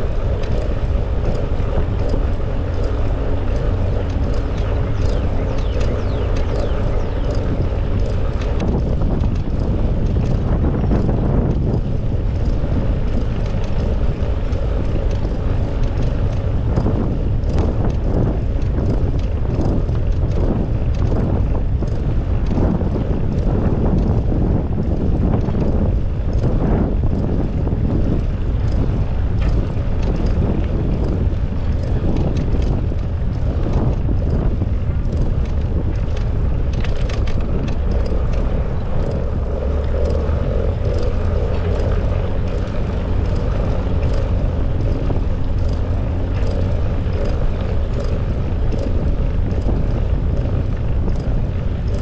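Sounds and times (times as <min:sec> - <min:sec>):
bicycle running noise: 0:00.0 - 0:52.0
wind rushing over microphone: 0:00.0 - 0:52.0.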